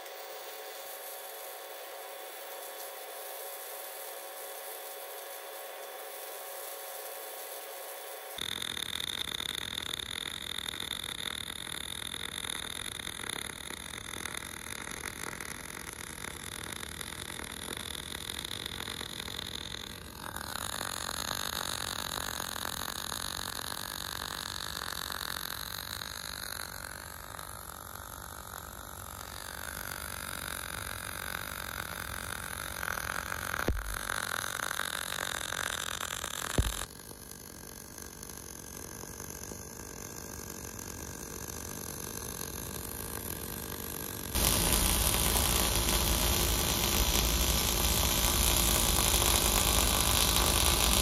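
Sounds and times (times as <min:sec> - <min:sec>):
welding arc crackling: 0:00.0 - 0:51.0.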